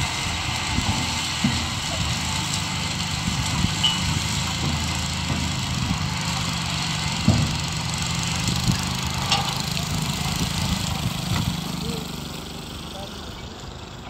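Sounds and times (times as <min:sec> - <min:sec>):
farm machinery engine running: 0:00.0 - 0:14.0.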